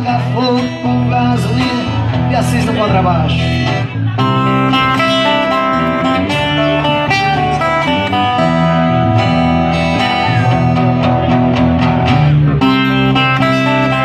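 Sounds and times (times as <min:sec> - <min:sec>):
band playing instrumental music: 0:00.0 - 0:14.0
bass guitar low notes: 0:00.0 - 0:14.0.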